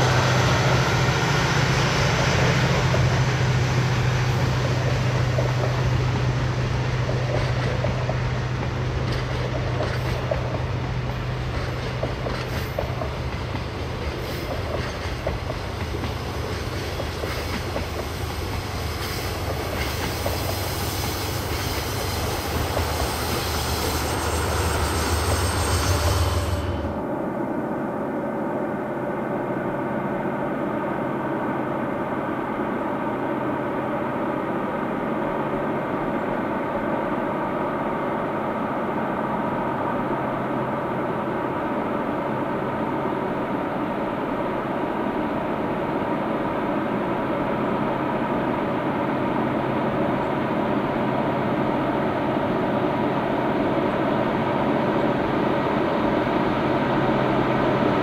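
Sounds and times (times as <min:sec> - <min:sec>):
diesel train engine droning: 0:00.0 - 0:58.0.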